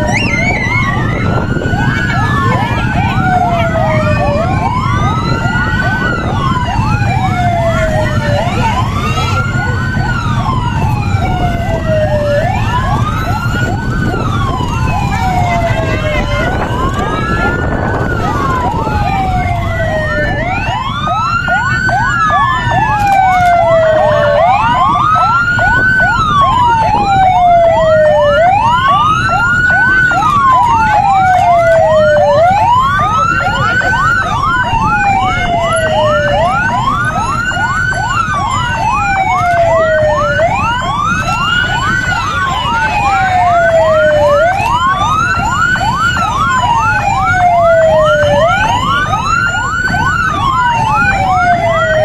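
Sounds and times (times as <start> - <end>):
siren wailing: 0.0 - 52.0
siren yelp: 0.0 - 52.0.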